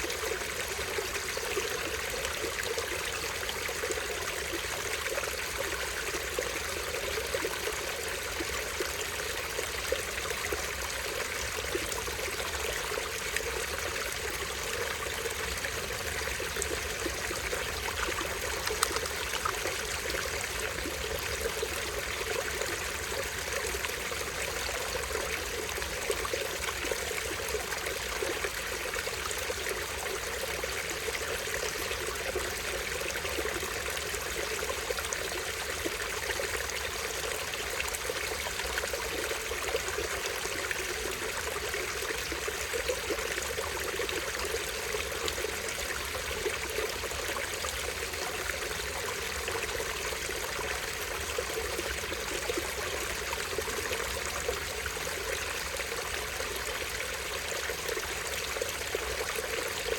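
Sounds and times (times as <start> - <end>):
small stream trickling: 0.0 - 59.9.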